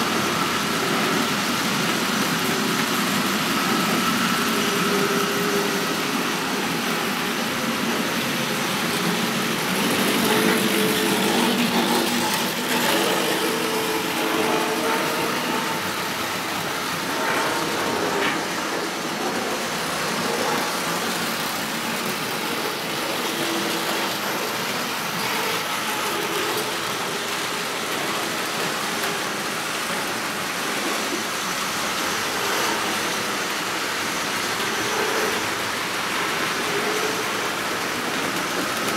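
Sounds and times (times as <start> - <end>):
model trains whirring on track: 0.0 - 38.9.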